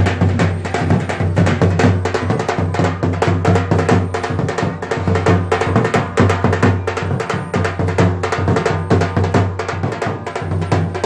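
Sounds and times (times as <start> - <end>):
dhol drum beating a rhythm: 0.0 - 11.0.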